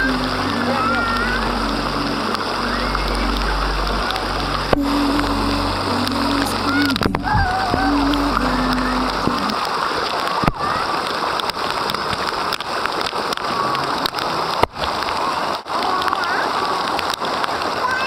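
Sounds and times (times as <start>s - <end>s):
water pattering down: 0.0s - 18.0s.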